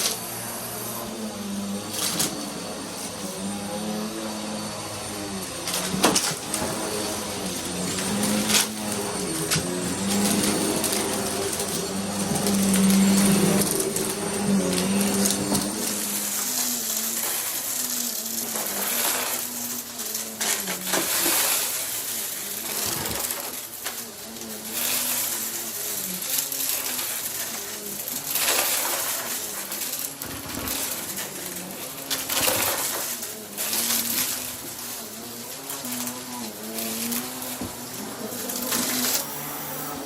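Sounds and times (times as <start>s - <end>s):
upright vacuum cleaner running: 0.0s - 40.0s.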